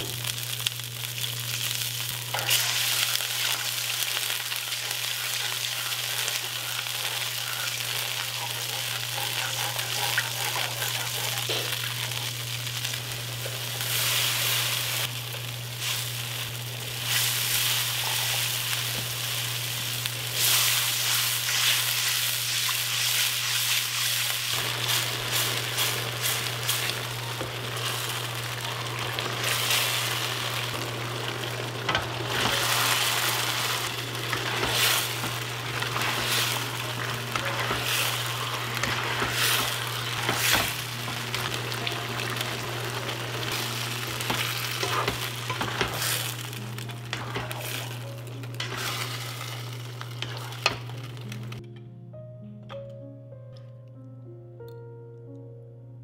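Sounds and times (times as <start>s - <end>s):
sauce sizzling in a wok: 0.0s - 51.6s.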